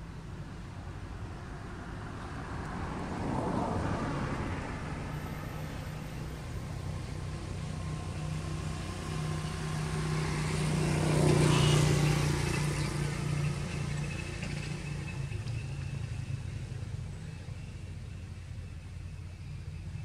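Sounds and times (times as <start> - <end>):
vehicle engine passing: 1.8 - 18.8.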